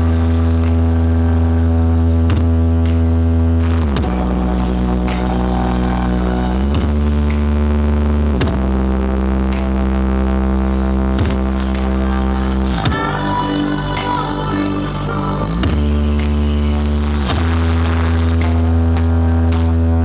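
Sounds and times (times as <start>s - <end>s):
bass-heavy electronic music: 0.0s - 20.0s.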